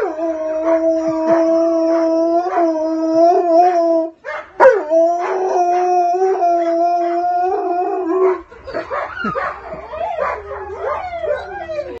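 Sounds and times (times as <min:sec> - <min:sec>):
wolfdogs howling: 0:00.0 - 0:12.0.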